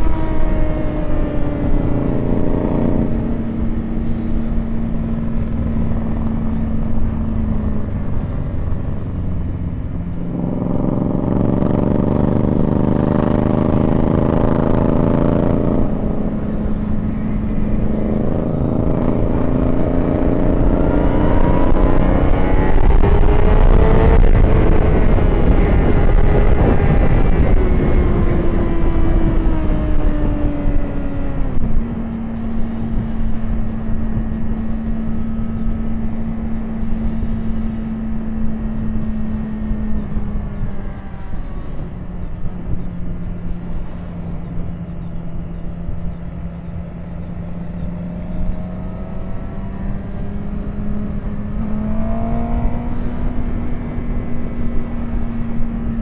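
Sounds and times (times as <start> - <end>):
motorcycle engine revving: 0.0 - 56.0
wind rushing over microphone: 0.0 - 56.0.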